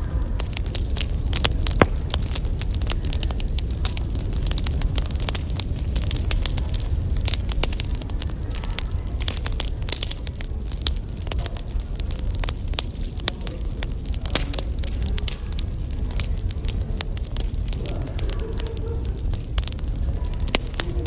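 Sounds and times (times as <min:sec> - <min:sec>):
fire low rumble: 0:00.0 - 0:21.0
firewood crackling and popping: 0:00.0 - 0:21.0.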